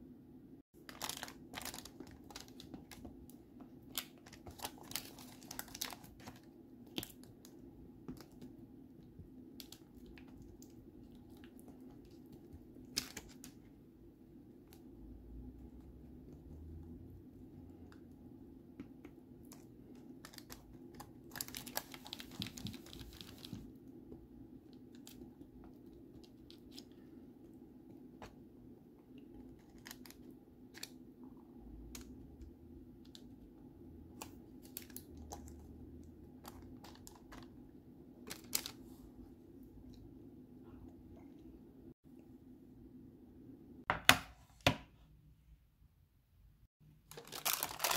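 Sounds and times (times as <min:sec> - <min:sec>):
low steady hum: 0:00.0 - 0:43.8.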